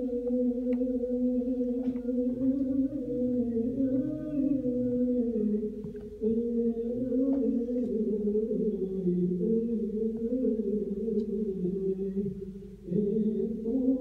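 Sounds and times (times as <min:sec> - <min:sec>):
person singing wordless notes: 0:00.0 - 0:14.0.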